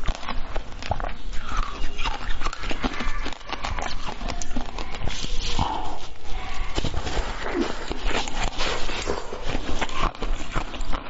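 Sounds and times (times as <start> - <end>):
wet eating smacks and slurps: 0.0 - 11.0.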